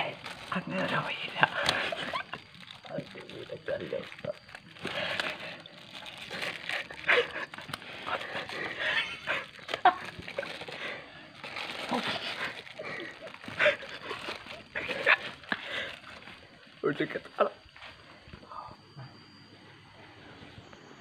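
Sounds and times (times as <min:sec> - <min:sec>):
plastic bags crinkling: 0:00.0 - 0:16.9.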